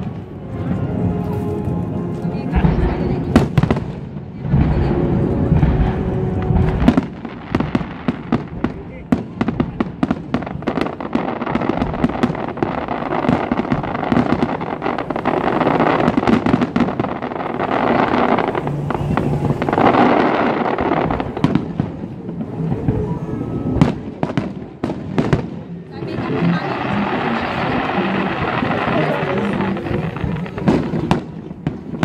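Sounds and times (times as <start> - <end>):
fireworks bangs and pops: 2.4 - 32.0.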